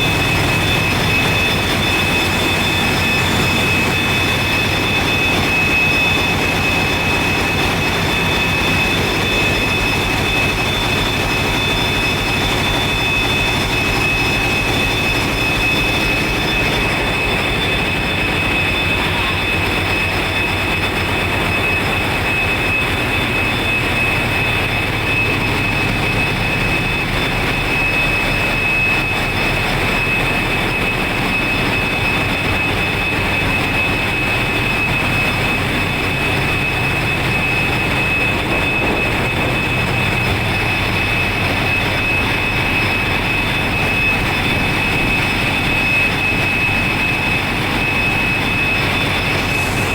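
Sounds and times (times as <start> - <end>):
diesel generator engines rumbling: 0.0 - 49.9
high whine: 0.0 - 49.9.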